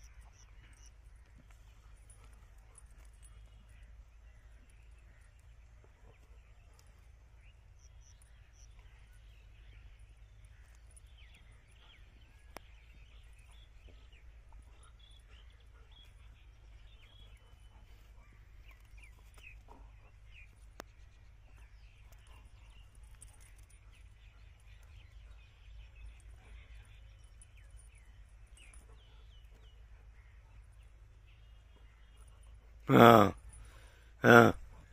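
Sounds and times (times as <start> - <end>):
faint bird chirps: 0.0 - 34.9.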